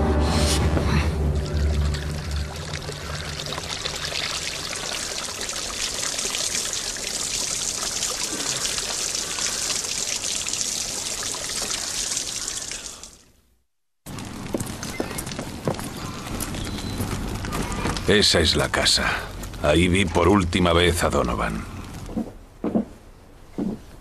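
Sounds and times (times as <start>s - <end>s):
water pouring and splashing: 0.5s - 13.3s, 14.1s - 22.1s.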